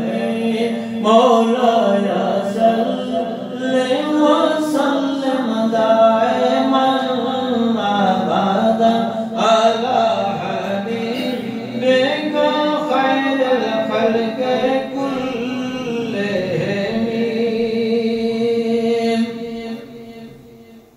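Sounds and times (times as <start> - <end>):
man chanting into a microphone: 0.0 - 20.8.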